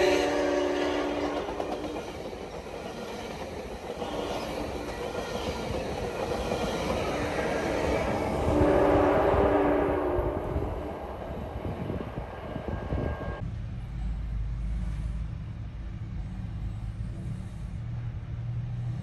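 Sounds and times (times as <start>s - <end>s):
train rolling past on tracks: 0.0s - 19.0s.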